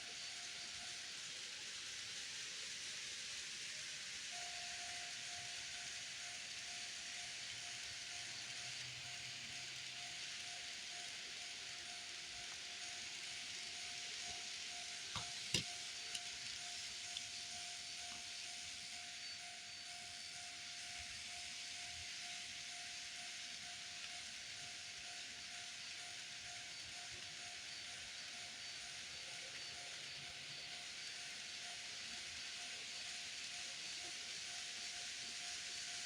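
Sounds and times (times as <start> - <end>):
steady hiss: 0.0 - 36.0
level-crossing warning tone pulsing: 4.3 - 36.0.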